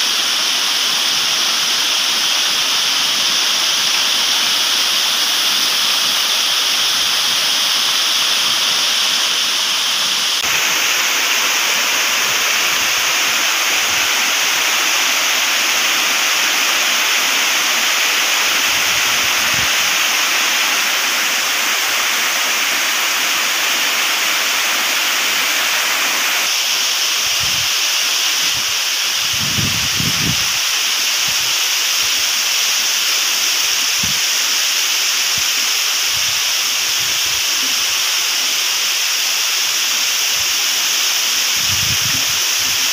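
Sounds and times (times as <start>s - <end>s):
heavy rain: 0.0s - 42.9s
water cascading down rocks: 0.0s - 42.9s.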